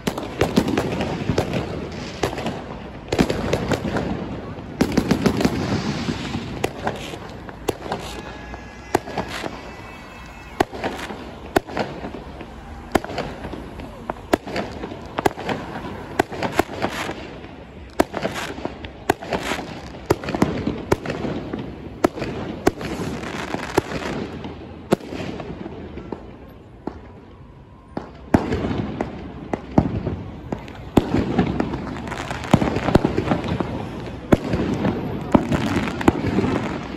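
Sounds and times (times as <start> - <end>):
firecrackers crackling: 0.0 - 36.9
fireworks bangs and cracks: 0.0 - 36.9.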